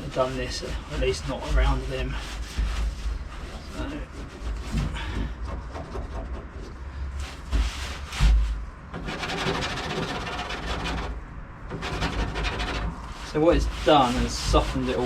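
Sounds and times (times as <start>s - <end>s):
tissue scraping on steel: 0.0s - 4.8s, 7.0s - 11.2s, 11.8s - 15.0s
dull bumps: 0.0s - 15.0s.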